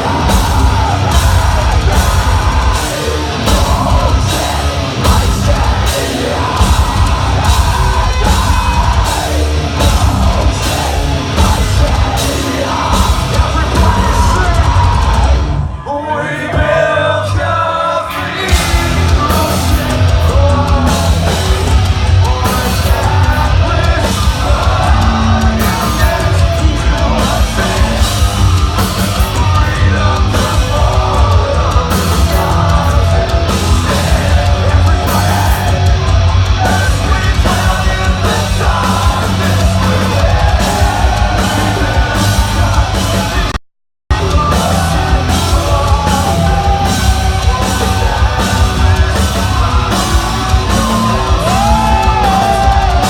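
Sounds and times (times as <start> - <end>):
heavy metal band playing live: 0.0 - 53.0
sung and shouted vocals: 0.0 - 53.0.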